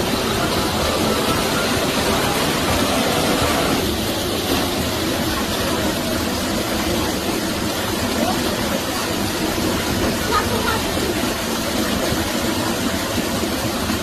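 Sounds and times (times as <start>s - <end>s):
river water churning: 0.0s - 14.0s.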